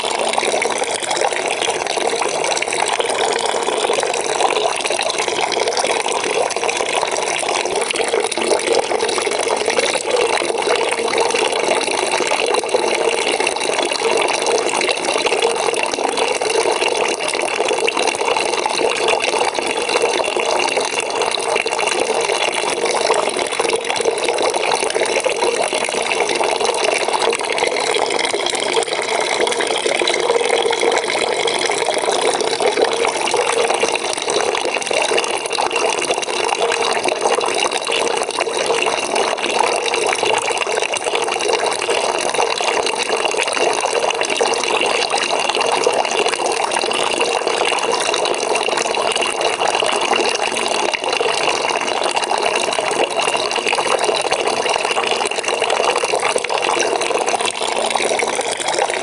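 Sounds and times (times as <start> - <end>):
tap water pouring into bucket: 0.0 - 59.0.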